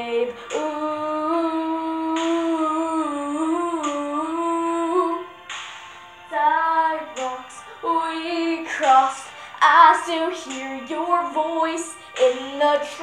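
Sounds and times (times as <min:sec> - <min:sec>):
girl singing: 0:00.0 - 0:05.5, 0:06.3 - 0:13.0.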